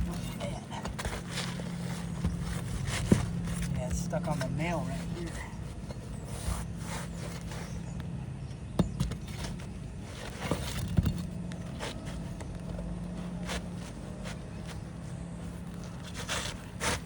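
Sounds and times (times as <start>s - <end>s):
shingle scraping: 0.0s - 17.0s
steady low hum: 0.0s - 17.0s.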